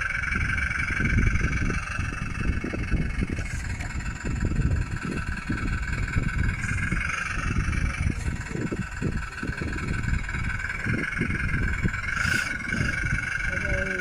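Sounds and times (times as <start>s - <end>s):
simulated engine sound from speaker: 0.0s - 14.0s
steady high whine: 0.0s - 14.0s.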